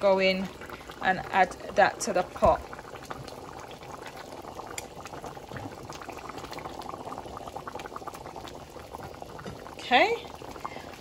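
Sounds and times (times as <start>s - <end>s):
bubbles popping: 0.0s - 11.0s
soup bubbling at the boil: 0.0s - 11.0s.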